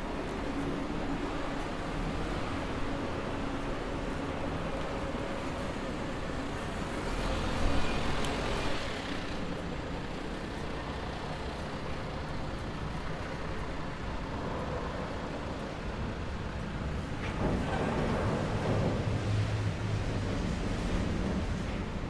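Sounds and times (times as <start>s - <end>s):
traffic rush: 0.0s - 22.0s.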